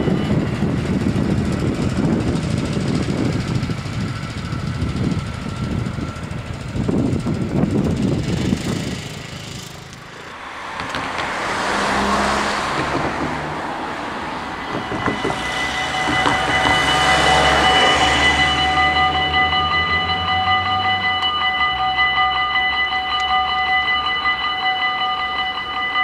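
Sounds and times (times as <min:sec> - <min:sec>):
road vehicles passing: 0:00.0 - 0:25.9
crossing warning bells ringing: 0:00.0 - 0:26.0.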